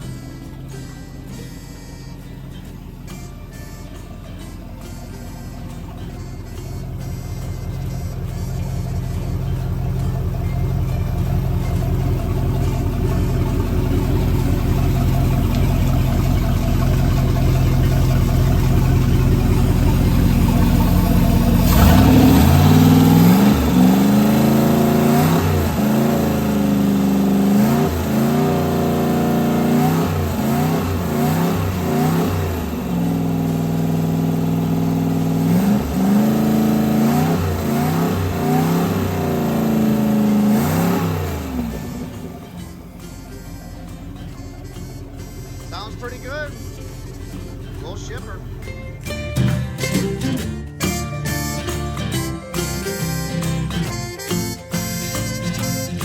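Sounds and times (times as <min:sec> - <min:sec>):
boat engine idling and revving: 0:00.0 - 0:56.0.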